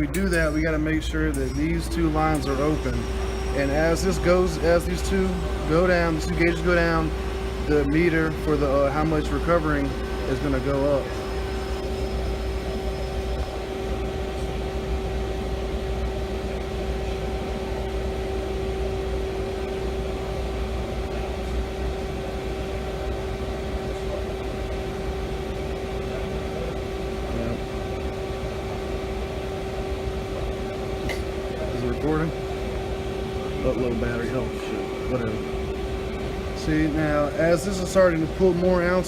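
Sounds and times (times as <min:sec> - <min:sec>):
machine humming: 0:00.0 - 0:39.0.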